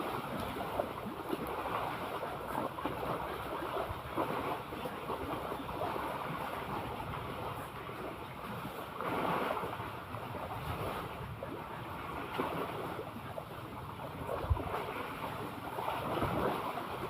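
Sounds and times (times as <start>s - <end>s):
sea waves lapping: 0.0s - 17.0s
wind buffeting microphone: 0.0s - 17.0s.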